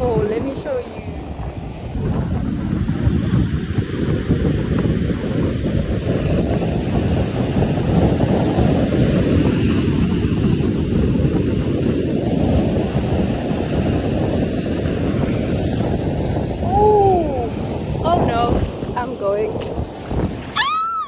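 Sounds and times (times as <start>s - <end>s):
ocean surf breaking on beach: 0.0s - 21.0s
wind noise on microphone: 0.0s - 21.0s.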